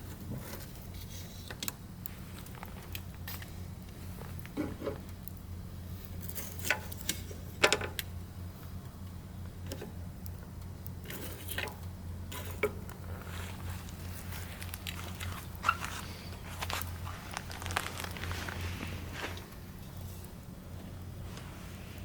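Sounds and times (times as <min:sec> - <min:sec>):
firewood crackling and popping: 0:00.0 - 0:22.0
low steady rumble: 0:00.0 - 0:22.0.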